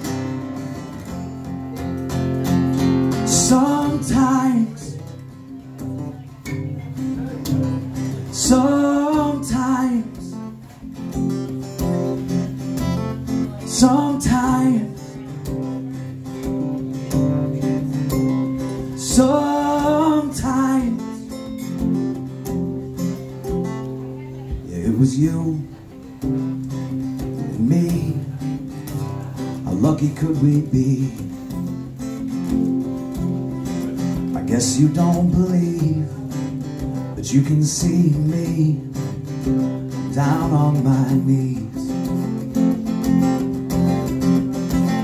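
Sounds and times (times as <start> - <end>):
man singing: 0.0 - 21.9, 24.5 - 45.0
acoustic guitars strummed: 0.0 - 45.0.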